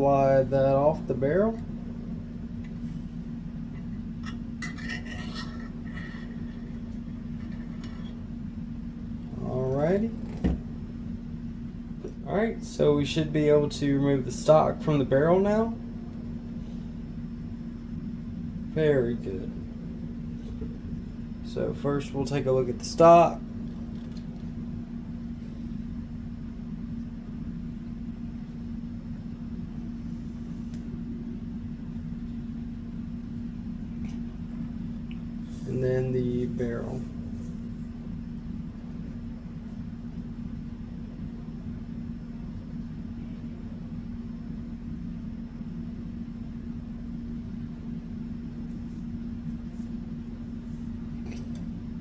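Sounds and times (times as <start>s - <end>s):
low mechanical hum: 0.0s - 52.0s.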